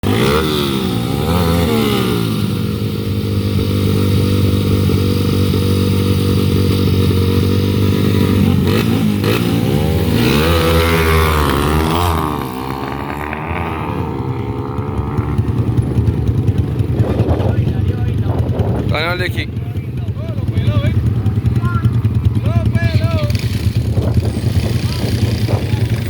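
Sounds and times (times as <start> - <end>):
motorcycle engines racing: 0.0 - 26.0.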